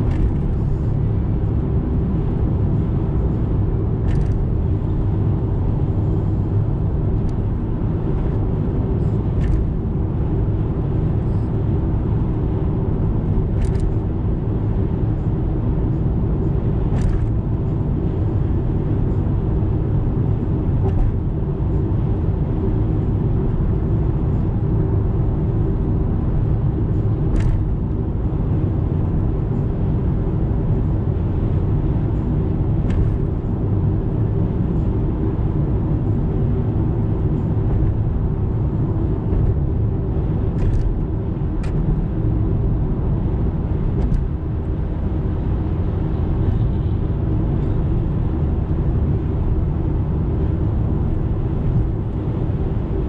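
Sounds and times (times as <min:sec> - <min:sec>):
engine hum: 0:00.0 - 0:53.0
tyres rumbling on road: 0:00.0 - 0:53.0.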